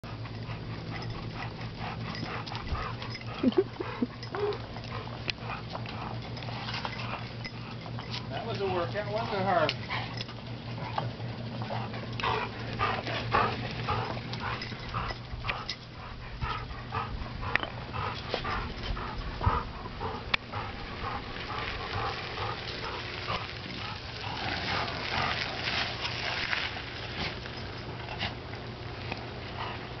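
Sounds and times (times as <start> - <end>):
dog panting: 0.0 - 26.4, 29.5 - 30.0.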